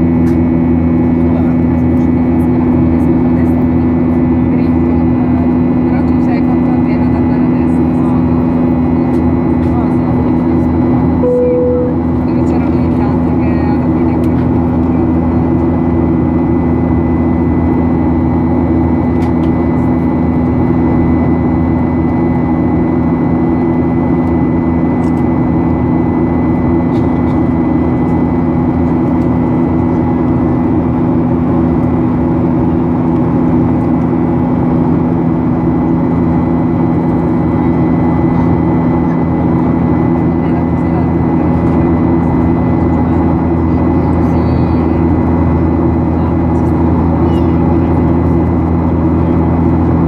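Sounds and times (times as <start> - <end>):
high engine whine: 0.0 - 50.0
jet engine cabin drone: 0.0 - 50.0.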